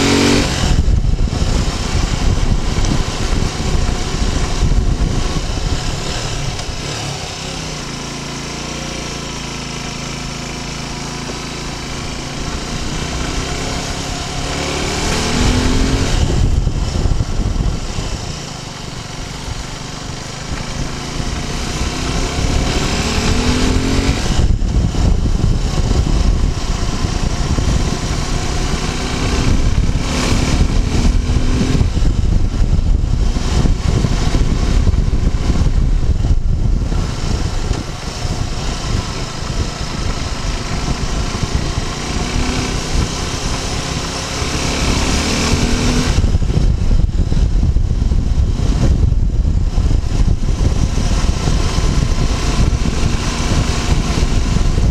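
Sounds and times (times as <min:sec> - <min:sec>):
motorcycle engine accelerating: 0:00.0 - 0:54.9
wind rumble on microphone: 0:00.0 - 0:54.9.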